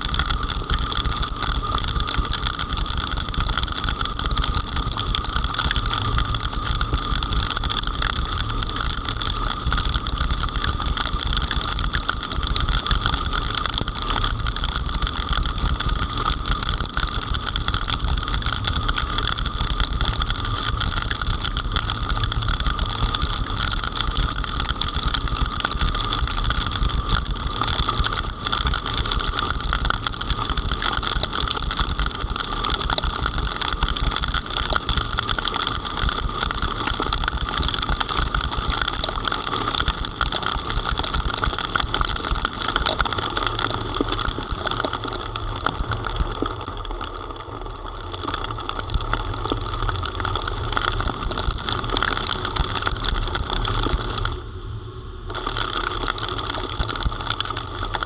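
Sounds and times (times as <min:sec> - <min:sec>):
heavy rain: 0:00.0 - 0:54.5, 0:55.3 - 0:58.0.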